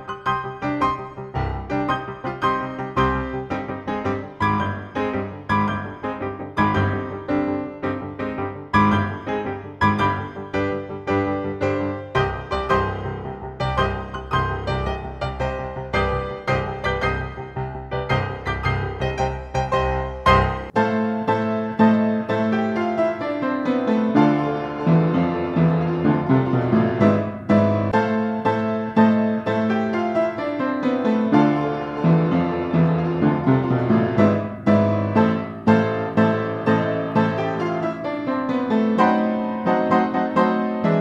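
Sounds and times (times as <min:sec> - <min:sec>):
piano playing quick runs: 0:00.0 - 0:41.0.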